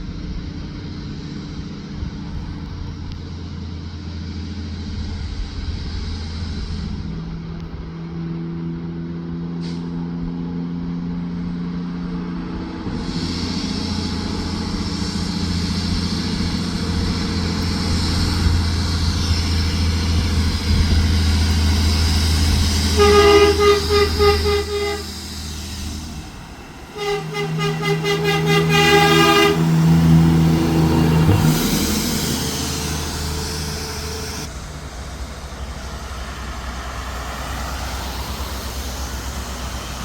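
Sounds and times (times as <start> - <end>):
truck engine approaching: 0.0 - 40.0.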